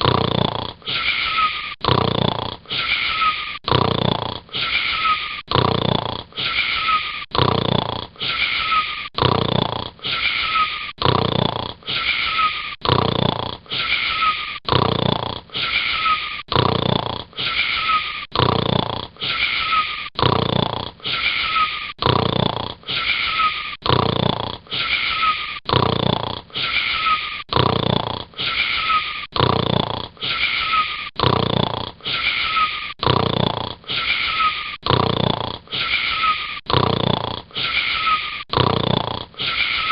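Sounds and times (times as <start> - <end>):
wheezy snoring with whistle: 0.0 - 39.9.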